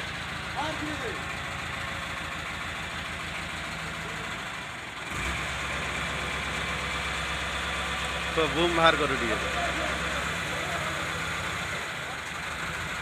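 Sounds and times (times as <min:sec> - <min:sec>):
diesel crane engine idling: 0:00.0 - 0:13.0.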